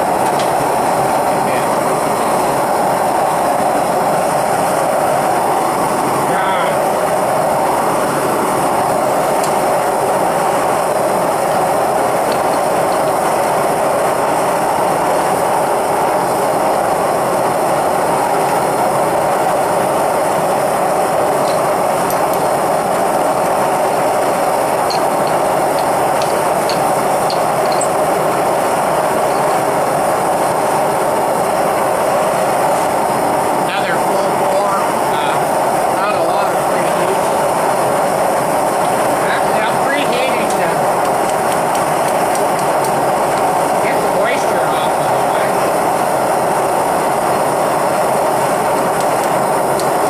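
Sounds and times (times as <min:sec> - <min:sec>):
gas furnace burner roaring: 0:00.0 - 0:50.0.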